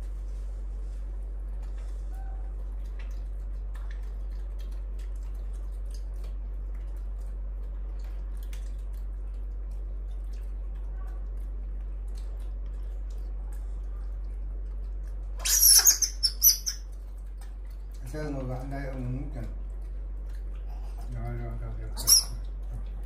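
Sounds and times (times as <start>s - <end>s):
steady low hum: 0.0s - 23.0s
wet smacking sounds: 1.5s - 21.2s.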